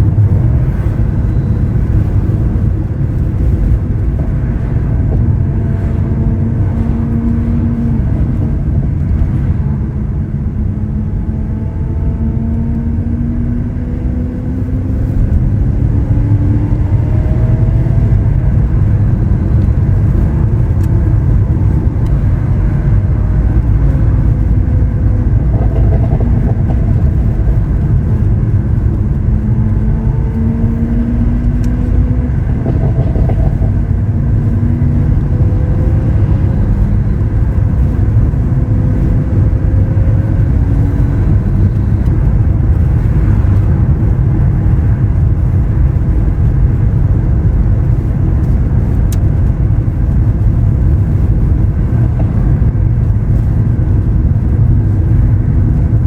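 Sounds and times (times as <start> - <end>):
road and wind noise: 0.0 - 56.0
sports car engine revving: 0.0 - 56.0.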